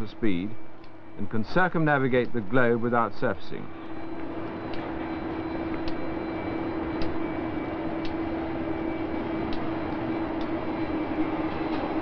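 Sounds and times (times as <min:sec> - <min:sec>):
low machinery hum with hiss: 0:00.0 - 0:12.0.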